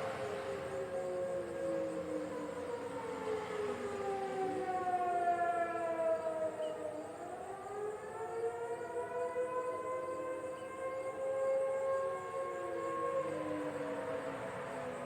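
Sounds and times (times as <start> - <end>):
distant tornado warning sirens wailing: 0.0 - 15.0.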